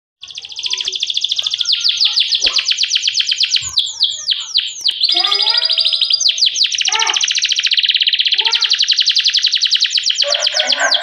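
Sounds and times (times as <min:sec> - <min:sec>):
canary singing trills: 0:00.2 - 0:11.0.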